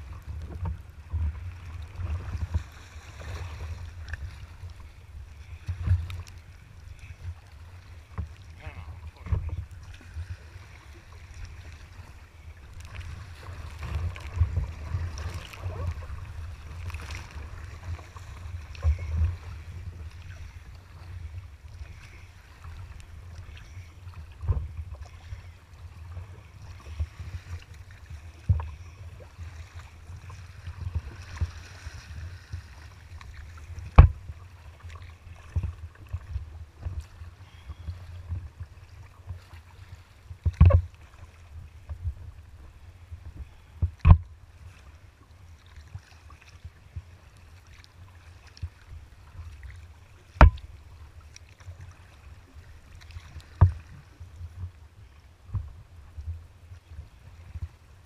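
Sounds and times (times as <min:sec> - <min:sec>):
low water rumble: 0:00.0 - 0:58.0
waves slapping hull: 0:00.0 - 0:58.0.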